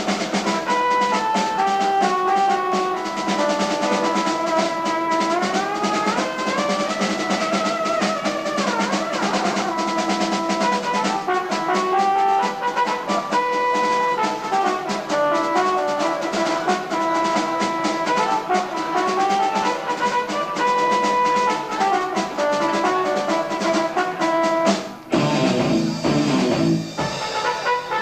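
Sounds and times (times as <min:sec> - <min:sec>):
fast busy drumming: 0:00.0 - 0:28.0
rock band playing live: 0:00.0 - 0:28.0.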